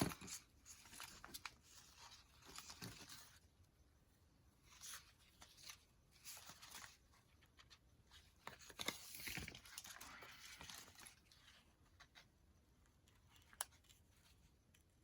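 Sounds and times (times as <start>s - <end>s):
paper and stickers rustling: 0.0s - 3.7s, 4.6s - 15.0s.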